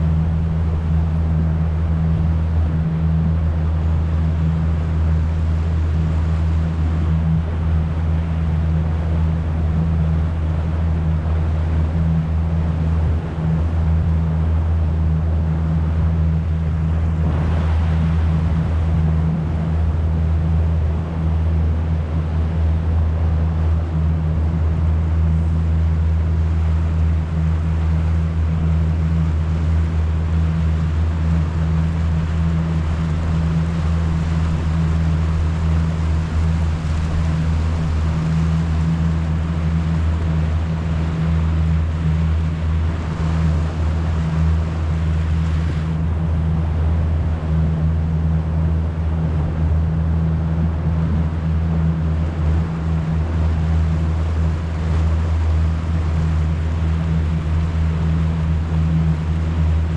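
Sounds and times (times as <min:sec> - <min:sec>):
boat engine humming: 0:00.0 - 0:59.9
water and wind hiss: 0:00.0 - 0:59.9.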